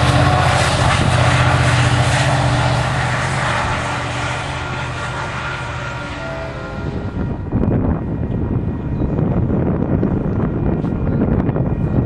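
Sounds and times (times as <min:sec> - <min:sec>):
locomotive diesel engine droning: 0:00.0 - 0:12.0.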